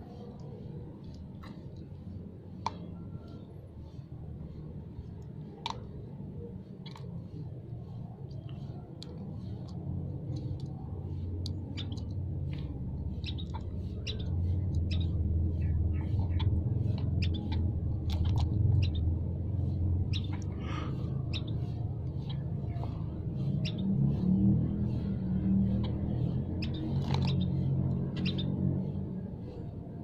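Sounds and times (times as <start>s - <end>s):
small songbirds chirping: 0.0s - 30.0s
steady low hum: 0.0s - 30.0s.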